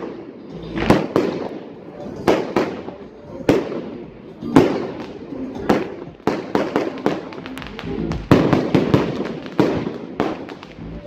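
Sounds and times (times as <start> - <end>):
fireworks bangs: 0.0 - 11.0
fireworks crackles: 0.0 - 11.0.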